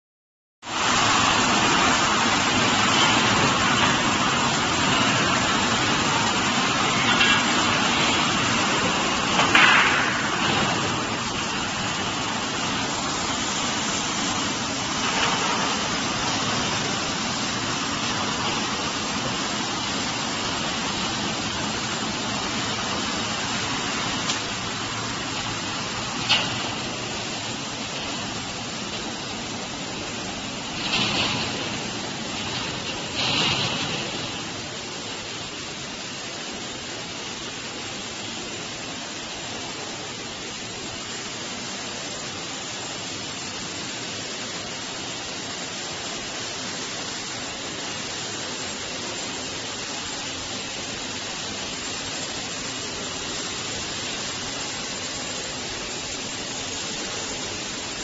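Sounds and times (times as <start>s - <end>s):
steel processing machinery running: 0.7s - 58.0s.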